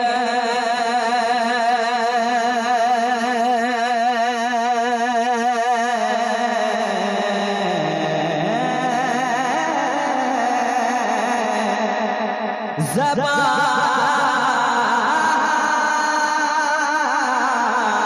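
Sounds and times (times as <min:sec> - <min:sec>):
man singing unaccompanied: 0:00.0 - 0:12.0, 0:12.8 - 0:18.0.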